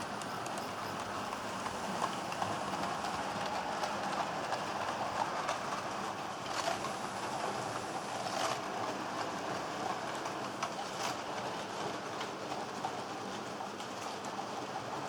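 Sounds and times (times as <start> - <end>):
model train rattling on track: 0.0 - 15.0.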